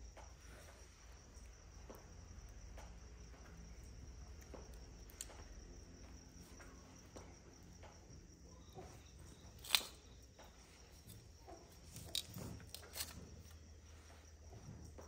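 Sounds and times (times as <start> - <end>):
crickets trilling: 0.0 - 15.0
wood fire crackling: 0.2 - 13.8.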